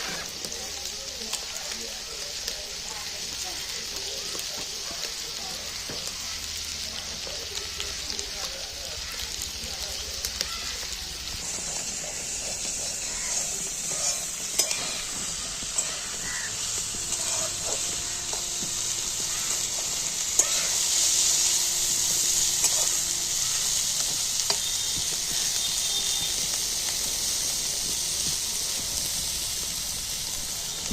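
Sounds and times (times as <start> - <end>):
food sizzling in hot oil: 0.0 - 30.9.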